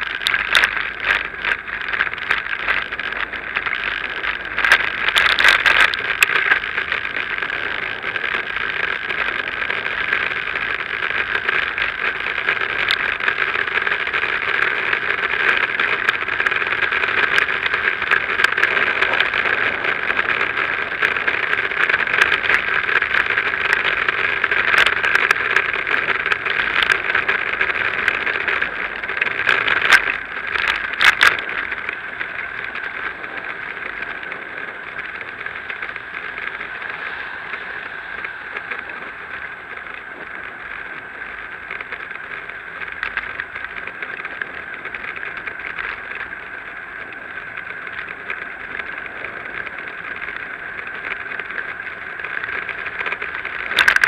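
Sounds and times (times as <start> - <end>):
bicycle clicks and knocks: 0.0 - 54.0
bicycle riding hiss: 0.0 - 54.0.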